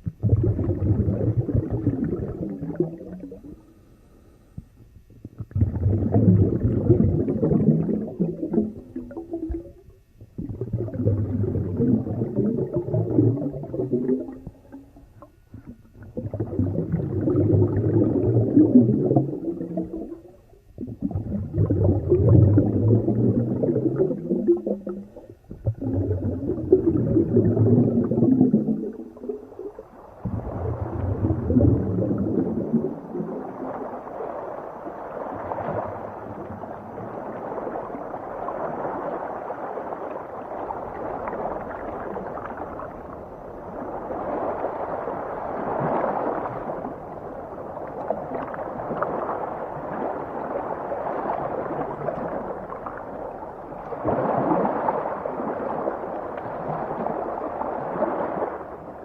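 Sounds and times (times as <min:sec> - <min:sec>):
underwater water churning: 0:00.0 - 0:04.4, 0:05.0 - 0:59.0.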